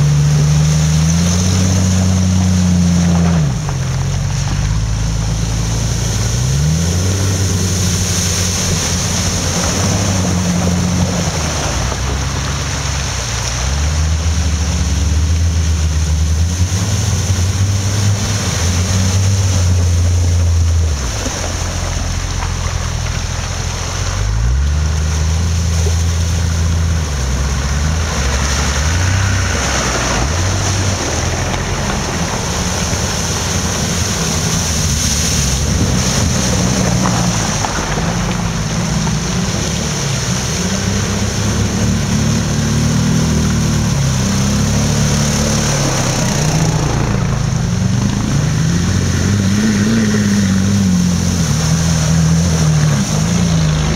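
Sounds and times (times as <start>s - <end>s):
off-road engine revving: 0.0s - 53.9s.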